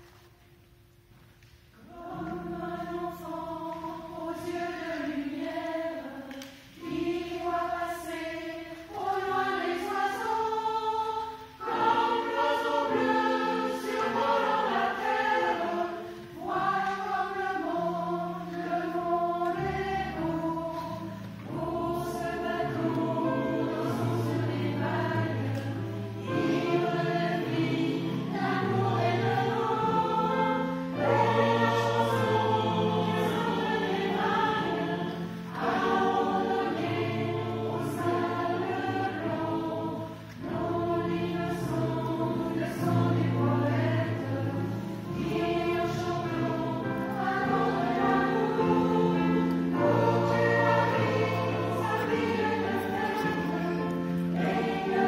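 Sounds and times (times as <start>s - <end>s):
mixed choir singing: 1.7s - 55.0s
piano accompaniment: 1.8s - 55.0s.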